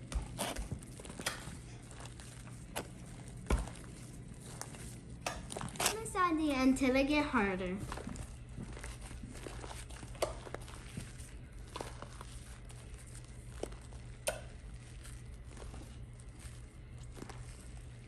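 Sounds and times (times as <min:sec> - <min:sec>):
slime squishing and popping: 0:00.0 - 0:06.0, 0:07.9 - 0:18.0
low steady hum: 0:00.0 - 0:18.0.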